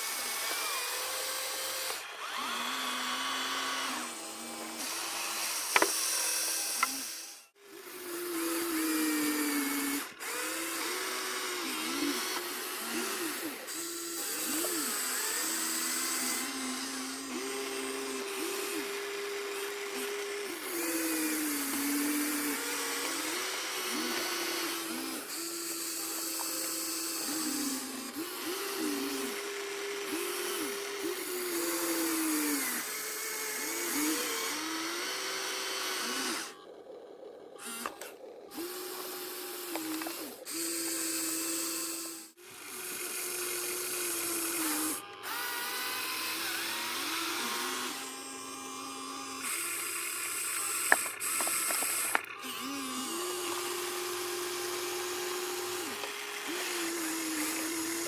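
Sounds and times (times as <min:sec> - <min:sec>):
small electric motors whining: 0:00.0 - 0:58.0.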